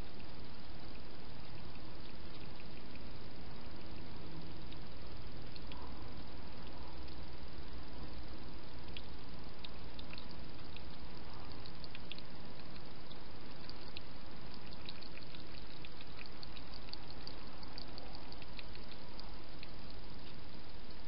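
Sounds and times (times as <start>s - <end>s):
steady hiss: 0.0s - 21.0s
hedgehog eating wet clicks: 0.1s - 21.0s.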